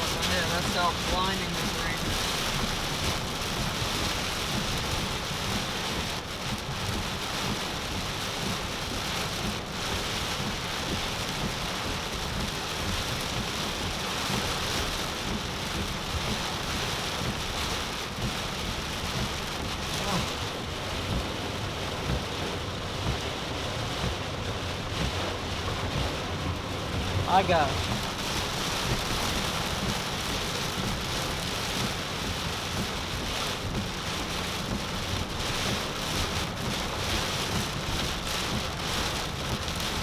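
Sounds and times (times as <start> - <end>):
heavy rain on a car: 0.0 - 40.0.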